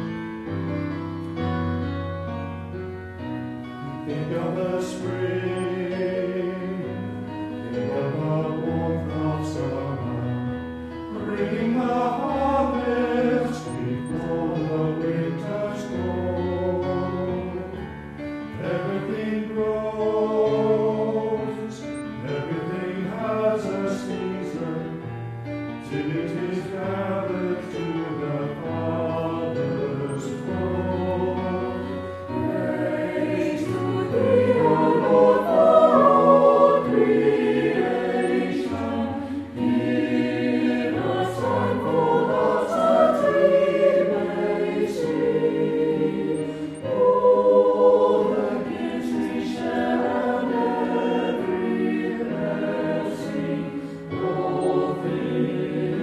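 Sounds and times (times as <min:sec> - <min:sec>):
choir singing a hymn: 0:00.0 - 0:56.0
keyboard chords: 0:00.0 - 0:56.0.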